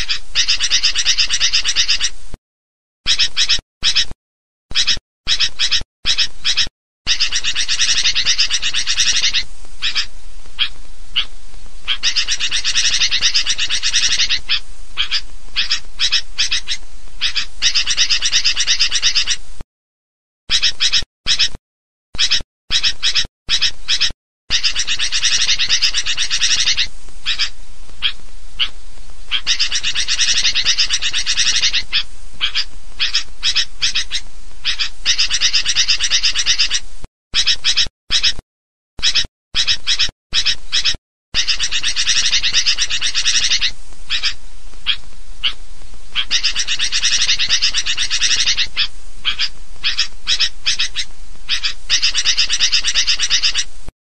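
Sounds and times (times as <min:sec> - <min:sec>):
bulbuls chirping chorus: 0:00.0 - 0:02.2, 0:03.1 - 0:19.4, 0:20.5 - 0:21.6, 0:22.2 - 0:38.4, 0:39.0 - 0:53.7.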